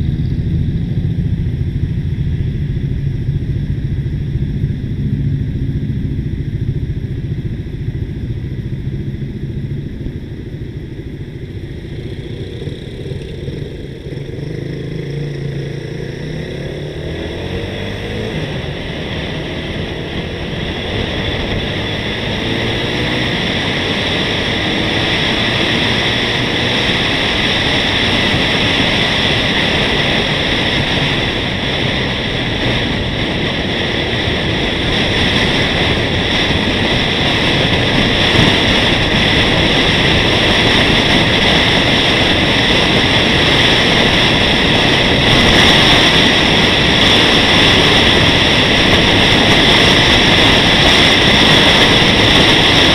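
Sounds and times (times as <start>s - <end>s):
motorcycle engine: 0.0s - 52.9s
wind rushing over microphone: 0.0s - 52.9s.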